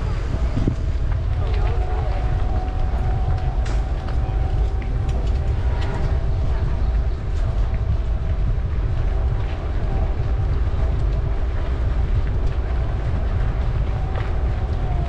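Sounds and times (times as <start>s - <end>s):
bicycle tyres rolling: 0.0s - 15.0s
faint steady hum: 0.0s - 15.0s
wind buffeting microphone: 0.0s - 15.0s.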